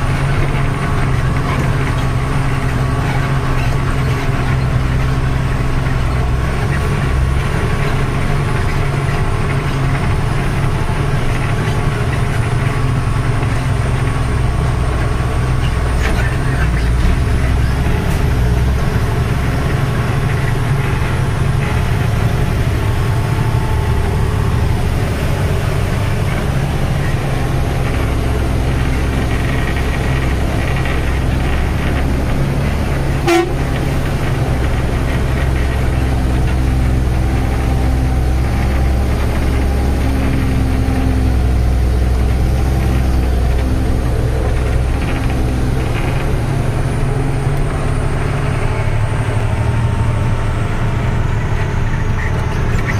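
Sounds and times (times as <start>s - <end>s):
diesel truck engine running: 0.0s - 52.9s.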